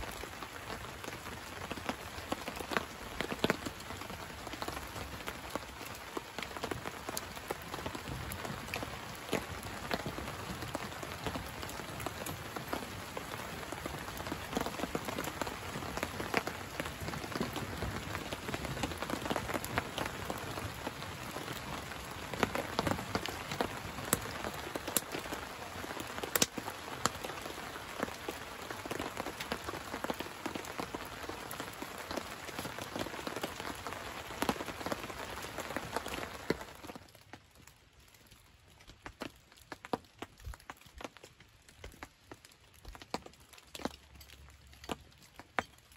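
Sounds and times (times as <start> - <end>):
rain pattering on tarp and leaves: 0.0 - 45.9.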